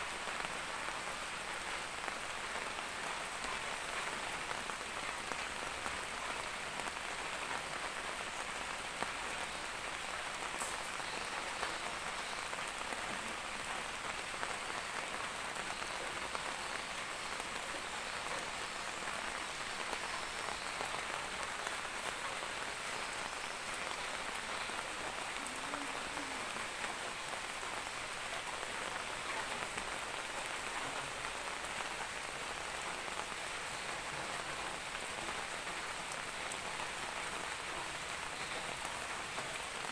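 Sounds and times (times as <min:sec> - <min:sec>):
rain hissing: 0:00.1 - 0:39.9.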